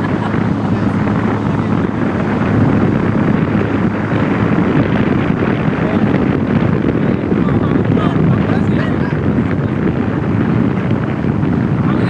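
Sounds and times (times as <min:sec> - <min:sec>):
low engine drone: 0:00.0 - 0:12.0
wind buffeting microphone: 0:00.0 - 0:12.0.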